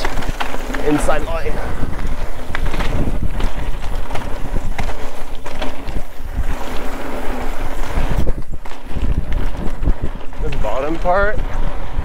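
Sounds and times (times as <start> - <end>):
bike knocking and rattling: 0.0 - 12.0
tyres rumbling on dirt: 0.0 - 12.0
wind buffeting microphone: 0.0 - 12.0.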